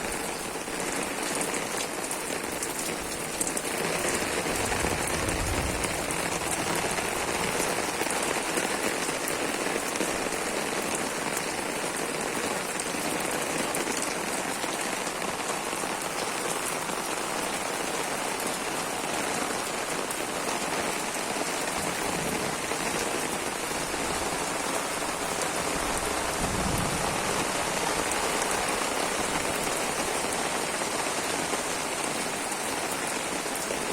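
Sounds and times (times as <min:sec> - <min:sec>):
rain pattering: 0:00.0 - 0:33.9.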